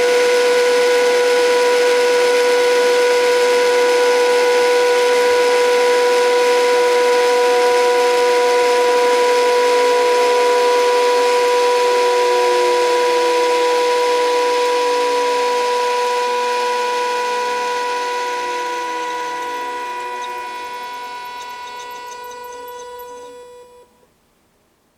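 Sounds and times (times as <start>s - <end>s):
electric motor whine: 0.0s - 23.9s.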